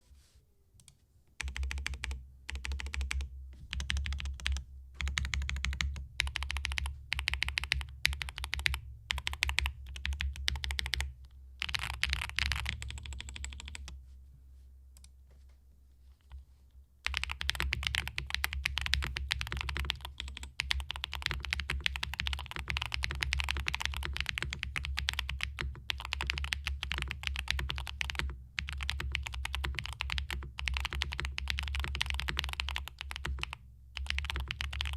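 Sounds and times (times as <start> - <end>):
mechanical keyboard typing: 1.4 - 13.9, 17.0 - 34.9.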